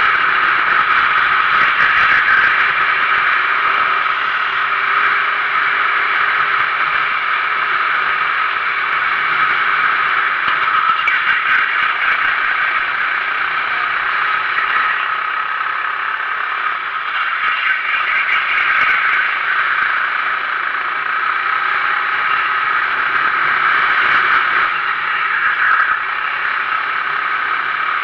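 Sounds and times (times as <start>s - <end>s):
kart engine noise: 0.0s - 28.0s.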